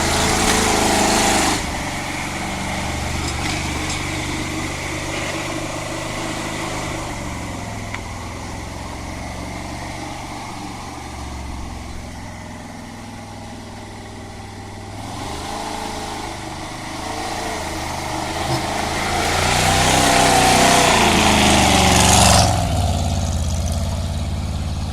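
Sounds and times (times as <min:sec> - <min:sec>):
vehicle engine revving under load: 0:00.0 - 0:24.9.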